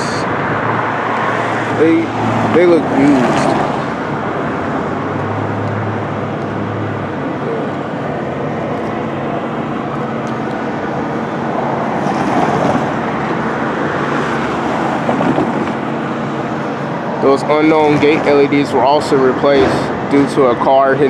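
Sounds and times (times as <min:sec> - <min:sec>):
road traffic passing: 0:00.0 - 0:21.0
vehicle passing: 0:00.0 - 0:21.0.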